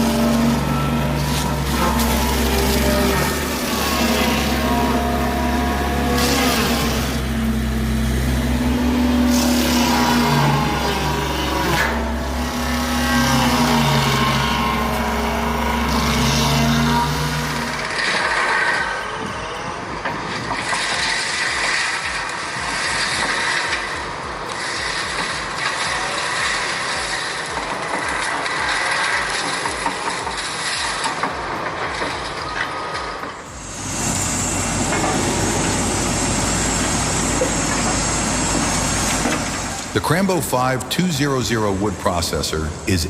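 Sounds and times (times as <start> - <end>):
machinery engine drone: 0.0 - 43.0
rattling machine: 0.0 - 43.0.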